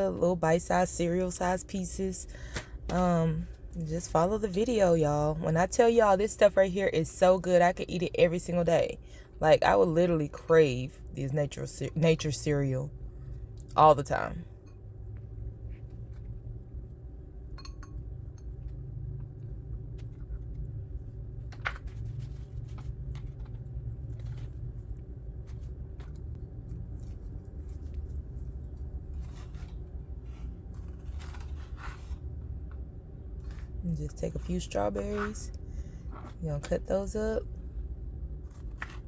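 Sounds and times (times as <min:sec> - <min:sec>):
low hum: 0:06.8 - 0:39.0.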